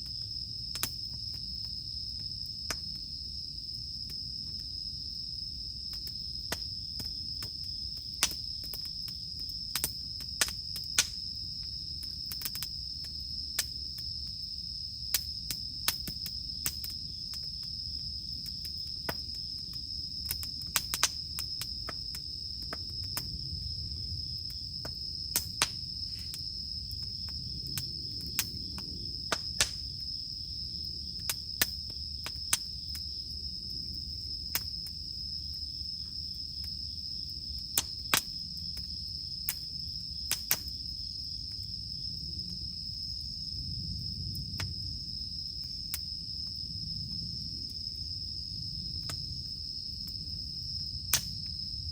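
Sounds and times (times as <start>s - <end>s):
campfire crackling: 0.0s - 51.9s
cicadas droning: 0.0s - 51.9s.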